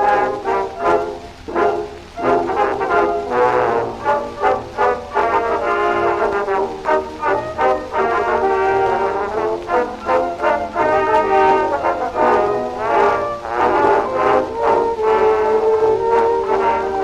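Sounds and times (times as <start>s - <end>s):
old record of dance orchestra: 0.0s - 17.0s.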